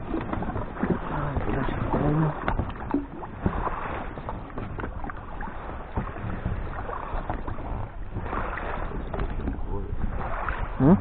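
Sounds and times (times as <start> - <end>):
oars rowing: 0.0 - 11.0.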